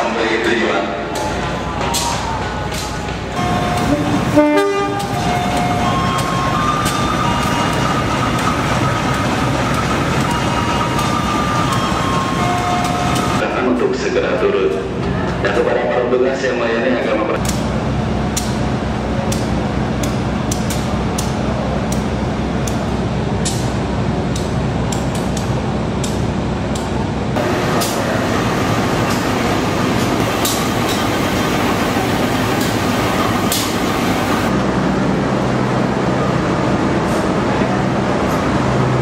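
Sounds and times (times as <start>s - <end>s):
diesel locomotive engine running: 0.0s - 39.0s
train rushing: 0.0s - 39.0s.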